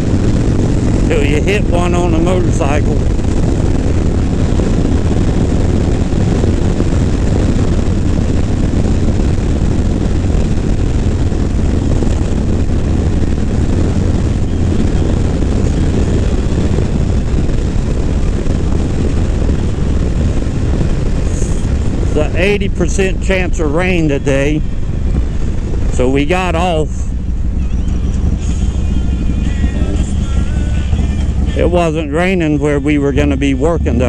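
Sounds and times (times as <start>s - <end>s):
motorcycle engine cruising: 0.0s - 34.0s
wind rush on microphone: 0.0s - 34.0s.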